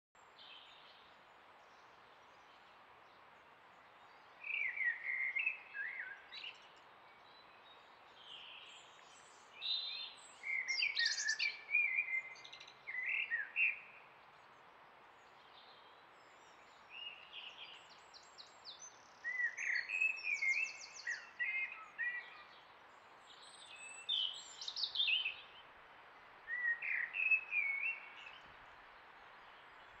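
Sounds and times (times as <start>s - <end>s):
faint steady hiss: 0.2s - 30.0s
songbirds chirping: 0.2s - 30.0s.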